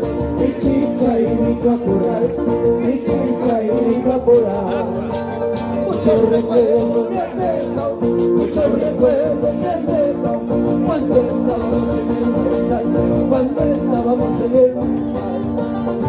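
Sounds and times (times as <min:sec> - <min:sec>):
man singing: 0:00.0 - 0:16.0
strummed acoustic guitars: 0:00.0 - 0:16.0.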